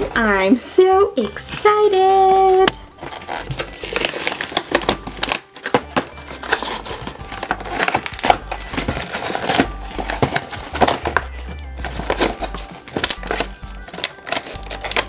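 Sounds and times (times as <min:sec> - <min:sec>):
packaging crinkling: 0:02.4 - 0:15.0.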